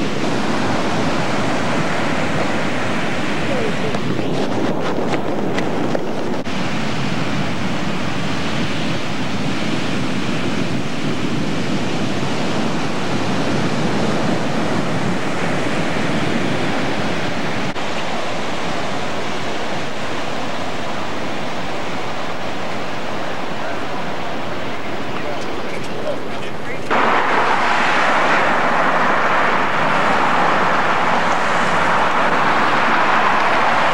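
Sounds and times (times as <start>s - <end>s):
ocean surf on beach: 0.0s - 33.9s
wind on microphone: 0.0s - 33.9s.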